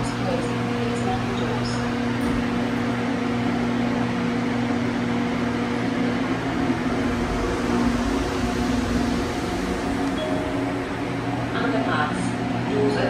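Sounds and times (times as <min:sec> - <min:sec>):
lift machine hum: 0:00.0 - 0:13.0
ventilation fan whir: 0:00.0 - 0:13.0.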